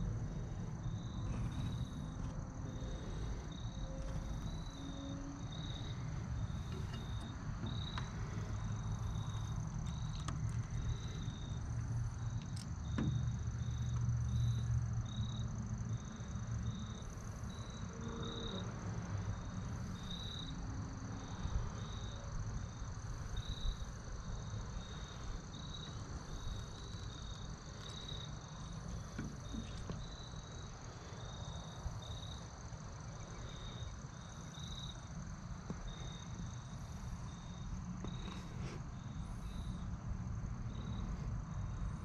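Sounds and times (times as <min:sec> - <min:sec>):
insects chirping: 0:00.0 - 0:42.0
high-pitched insect trill: 0:00.8 - 0:41.0.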